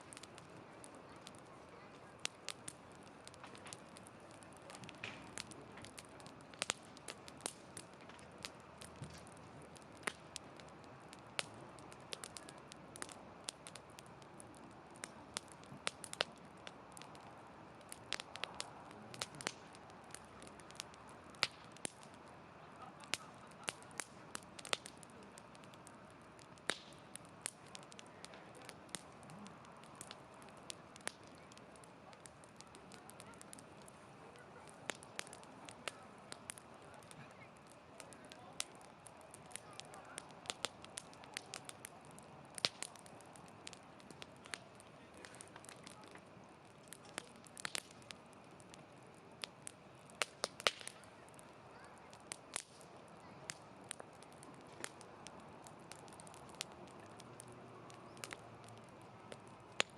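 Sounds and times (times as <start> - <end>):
campfire crackling and popping: 0.0 - 59.9
faint hiss of burning: 0.0 - 59.9.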